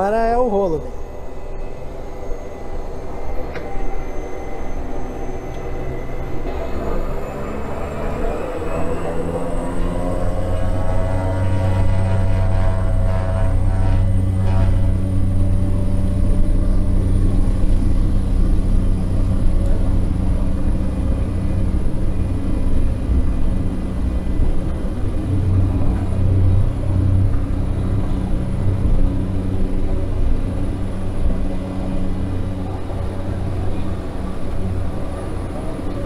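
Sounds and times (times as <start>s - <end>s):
propeller engine drone: 0.0s - 36.0s.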